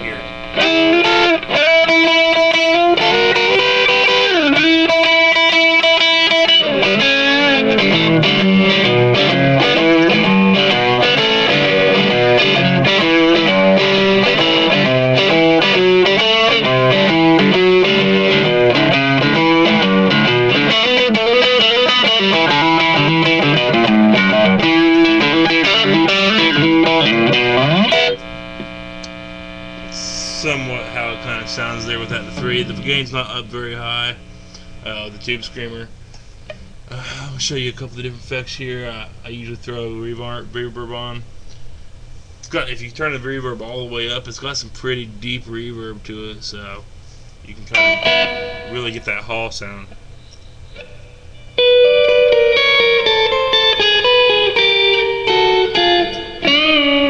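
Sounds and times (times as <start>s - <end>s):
distorted electric guitar lead: 0.0s - 37.7s, 47.5s - 57.0s
amp mains hum: 0.0s - 57.0s.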